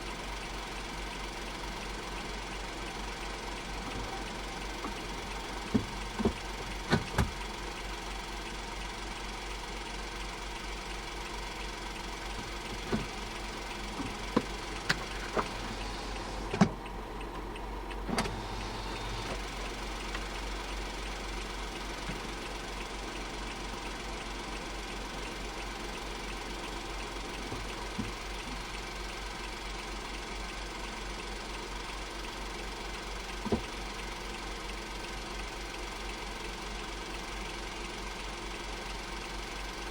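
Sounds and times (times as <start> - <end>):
car engine droning steadily: 0.0 - 39.9.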